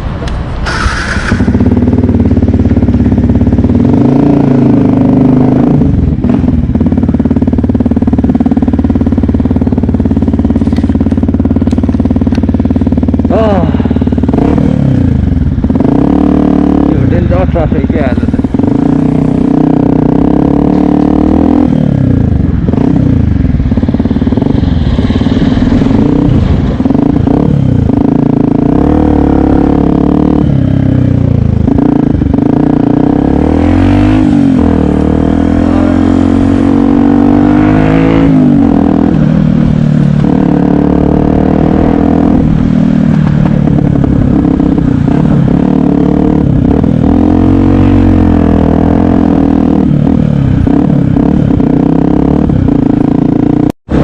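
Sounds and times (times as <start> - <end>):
motorcycle engine revving: 0.6 - 54.0.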